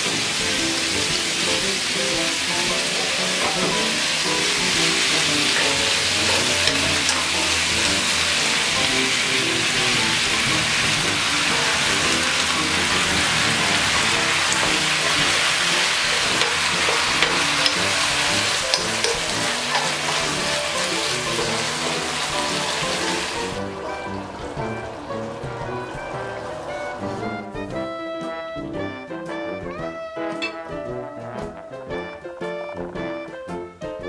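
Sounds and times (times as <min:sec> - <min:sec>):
food sizzling in a pan: 0:00.0 - 0:27.3.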